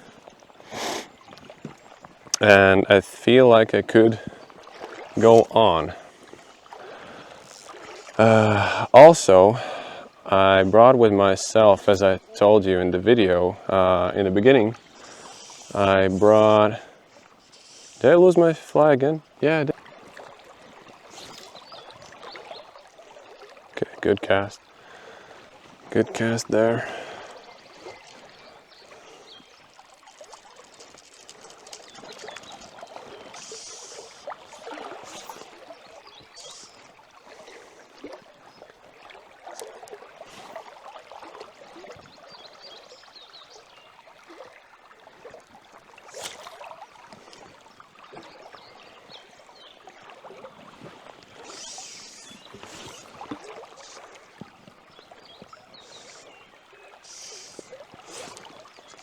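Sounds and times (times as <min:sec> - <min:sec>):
river water rushing over shallows: 0:00.0 - 0:59.0.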